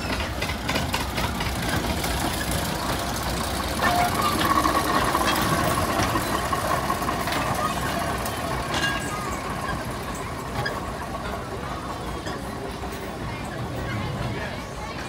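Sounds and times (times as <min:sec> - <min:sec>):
carriage wheels rolling: 0:00.0 - 0:15.0
diesel locomotive passing: 0:00.0 - 0:15.0
wheels clicking on track: 0:00.0 - 0:15.0.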